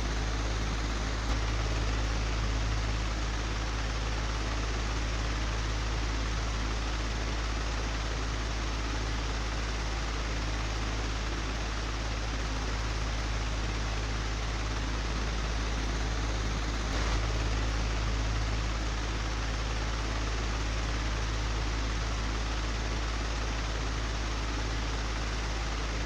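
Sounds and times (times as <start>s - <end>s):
electric fan whooshing and humming: 0.0s - 26.0s.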